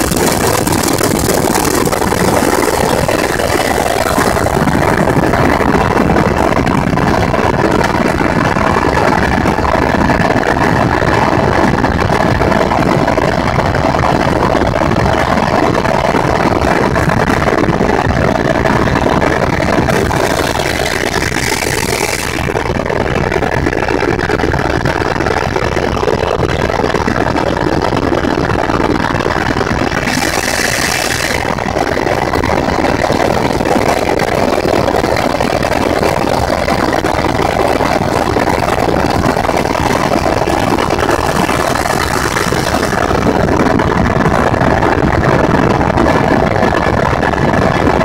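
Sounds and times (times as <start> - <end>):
helicopter engine drone: 0.0 - 48.0
high turbine whine: 0.0 - 48.0.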